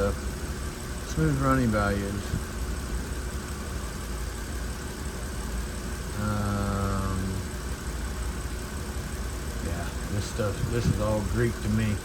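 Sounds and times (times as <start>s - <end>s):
car engine idling unevenly: 0.0s - 12.0s
steady low hum: 0.0s - 12.0s.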